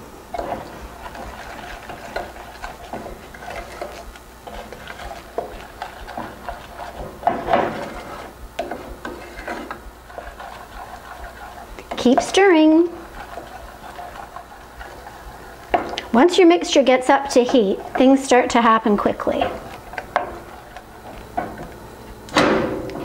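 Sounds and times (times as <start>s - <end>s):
wooden spoon scraping a saucepan: 0.3s - 21.7s.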